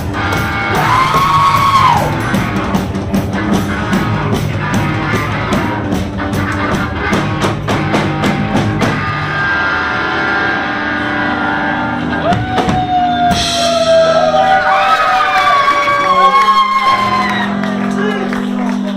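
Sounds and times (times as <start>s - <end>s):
drumming: 0.0s - 9.4s, 12.1s - 18.9s
live rock band playing: 0.0s - 18.9s.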